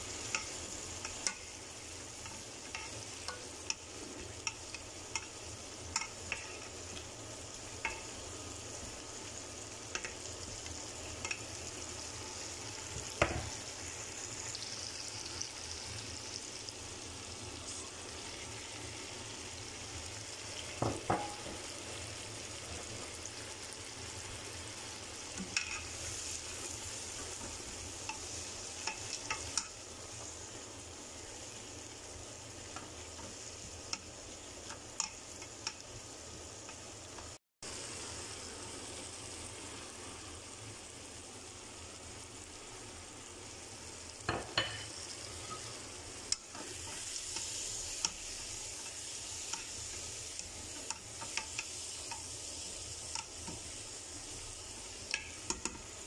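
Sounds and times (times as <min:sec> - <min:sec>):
vegetables frying in oil: 0:00.0 - 0:56.0.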